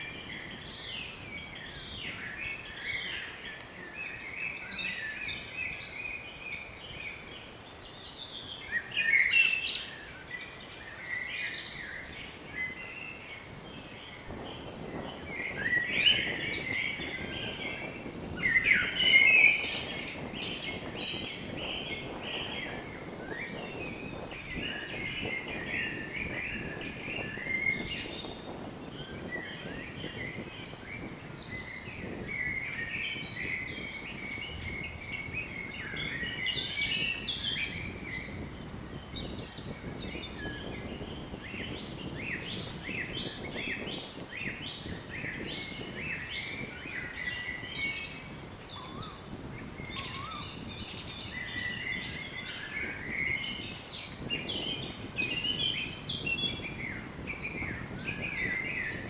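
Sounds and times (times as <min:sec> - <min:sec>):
low rush of wind: 0:00.0 - 0:59.0
songbirds singing and chirping: 0:00.0 - 0:59.0.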